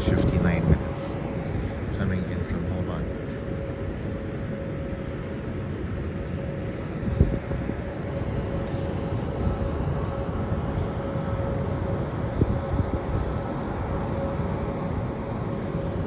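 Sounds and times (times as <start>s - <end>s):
jet engines rumbling and whining: 0.0s - 16.0s.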